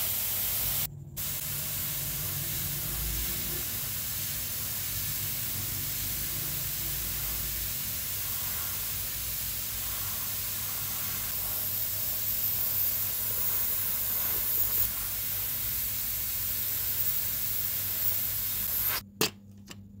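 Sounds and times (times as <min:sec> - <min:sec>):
mini sandblaster hissing: 0:00.0 - 0:19.0.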